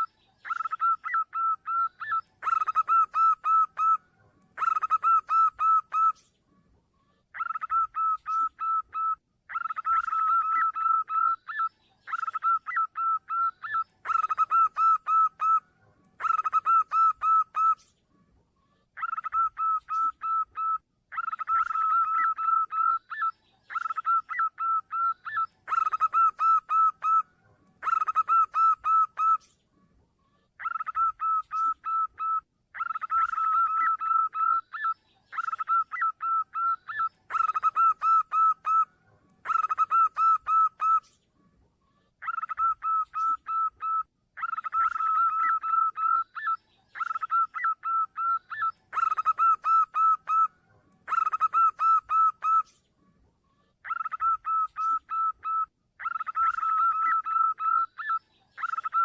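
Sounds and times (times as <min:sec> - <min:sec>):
dove cooing: 0:00.0 - 0:06.3, 0:07.3 - 0:17.9, 0:19.0 - 0:29.6, 0:30.6 - 0:41.2, 0:42.2 - 0:52.8, 0:53.8 - 0:59.0.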